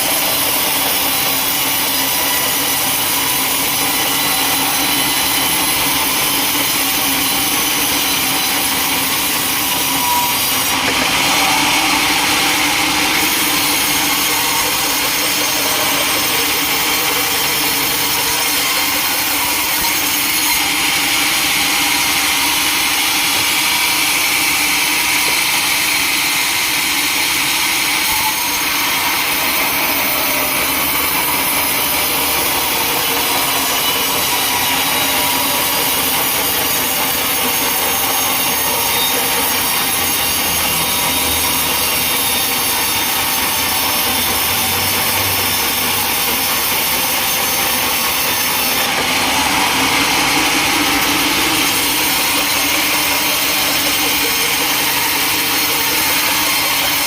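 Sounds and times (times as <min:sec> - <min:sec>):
sawmill saw cutting timber: 0:00.0 - 0:57.0.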